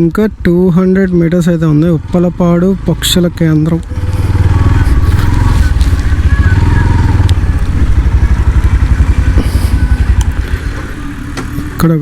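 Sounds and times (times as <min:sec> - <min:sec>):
motorcycle engine running: 0:00.5 - 0:12.0.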